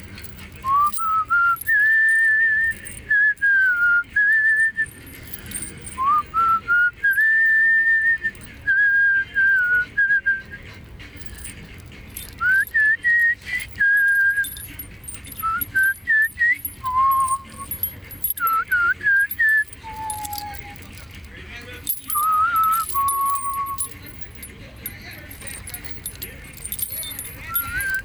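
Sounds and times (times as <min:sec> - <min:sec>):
person whistling a slow tune: 0:00.6 - 0:10.7, 0:12.3 - 0:14.7, 0:15.3 - 0:21.1, 0:21.8 - 0:24.0, 0:25.4 - 0:28.0.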